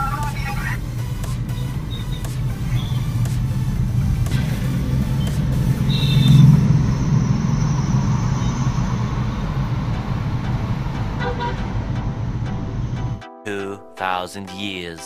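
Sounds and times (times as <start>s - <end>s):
car road and engine rumble: 0.0s - 13.2s.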